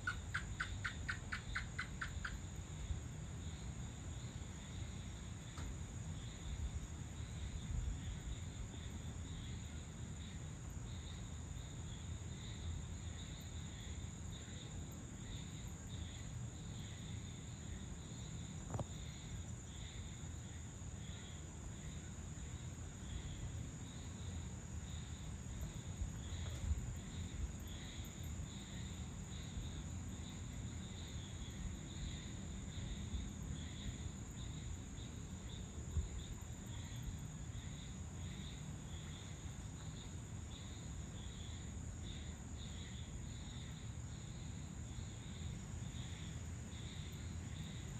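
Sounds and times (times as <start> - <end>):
cricket chirps: 0.0 - 47.9
insects trilling: 0.0 - 47.9.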